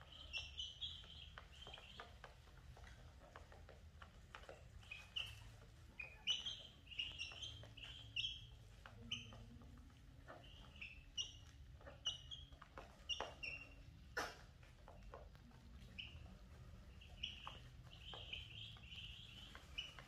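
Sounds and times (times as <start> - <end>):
beaks pecking on plastic tray: 0.0 - 20.0
chicks peeping: 0.0 - 20.0.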